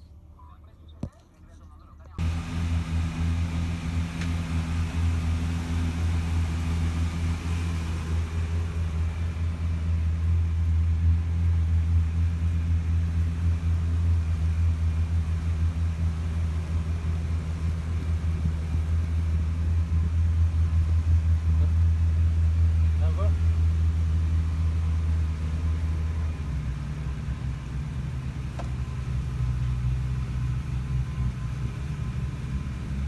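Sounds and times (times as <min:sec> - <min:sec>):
boat engine idling: 0:02.2 - 0:33.0.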